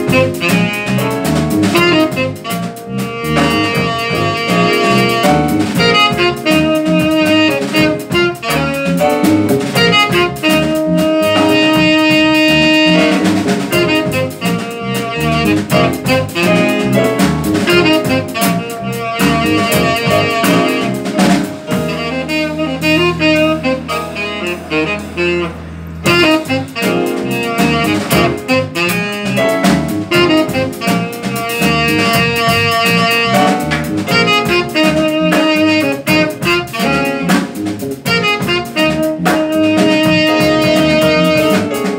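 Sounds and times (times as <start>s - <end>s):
double bass: 0.0s - 41.9s
drums: 0.0s - 41.9s
piano: 0.0s - 41.9s
saxophone: 0.0s - 41.9s.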